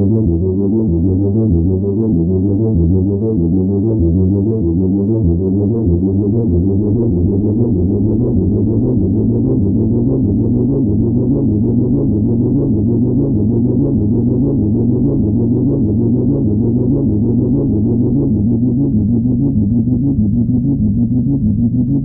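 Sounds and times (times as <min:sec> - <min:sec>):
muffled synthesizer bass sequence: 0:00.0 - 0:22.0.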